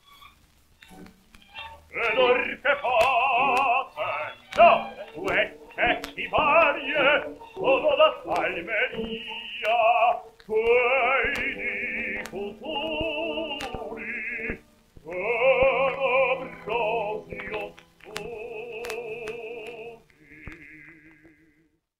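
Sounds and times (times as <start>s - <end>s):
record surface clicks: 0.0s - 21.4s
orchestra: 0.0s - 21.6s
male opera voices singing: 1.9s - 21.6s.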